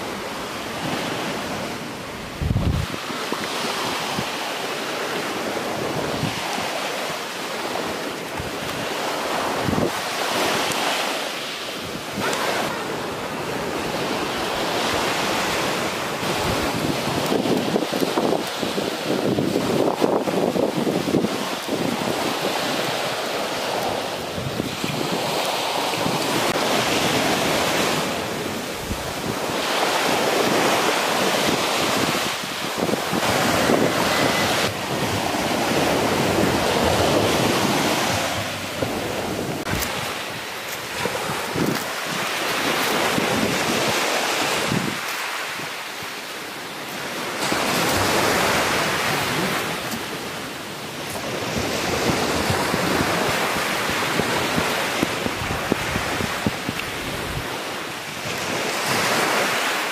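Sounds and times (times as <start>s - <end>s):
wind buffeting microphone: 0.0s - 11.1s, 11.7s - 59.8s
surf washing onto beach: 0.0s - 59.9s.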